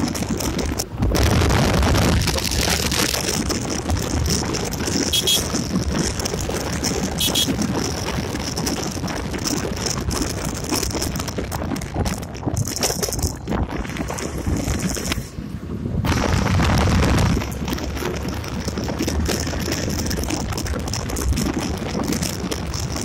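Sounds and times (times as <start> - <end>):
motorcycle engine at speed: 0.0 - 23.0
wind noise on microphone: 0.0 - 23.0.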